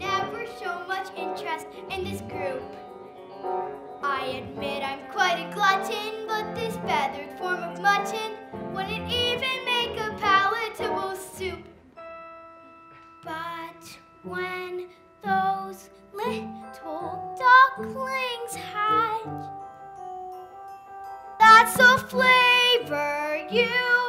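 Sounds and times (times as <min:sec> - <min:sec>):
child singing: 0:00.0 - 0:02.8, 0:04.0 - 0:11.7, 0:13.2 - 0:19.5, 0:21.4 - 0:24.0
instrumental backing: 0:00.0 - 0:24.0.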